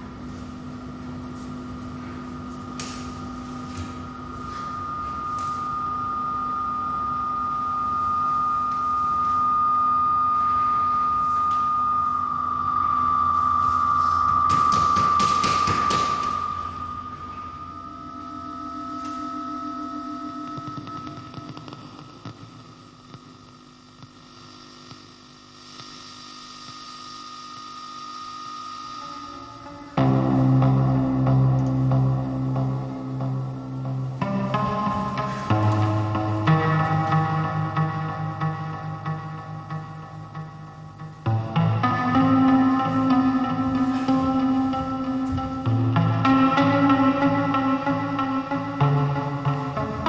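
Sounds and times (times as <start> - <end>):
low hum: 0.0 - 50.0
steady high electronic tone: 0.0 - 50.0.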